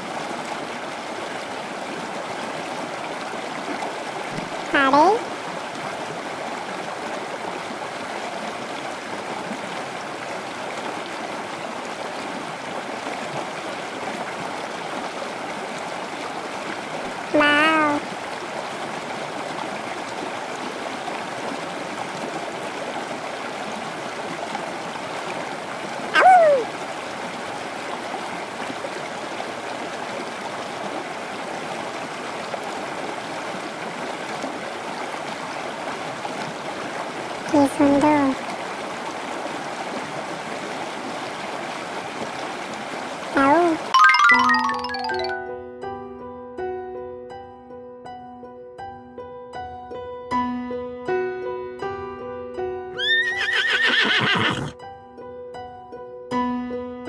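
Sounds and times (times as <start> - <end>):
flowing water rushing: 0.0 - 45.4, 53.0 - 54.7.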